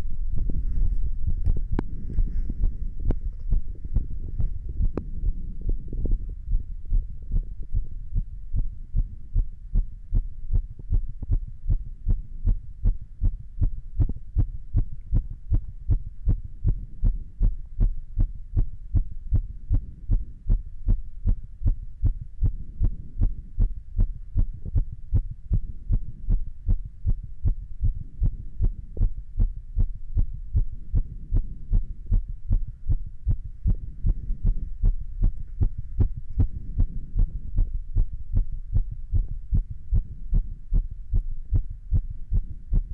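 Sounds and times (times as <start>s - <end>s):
heartbeat thuds: 0.0s - 42.9s
low rumble: 0.0s - 42.9s.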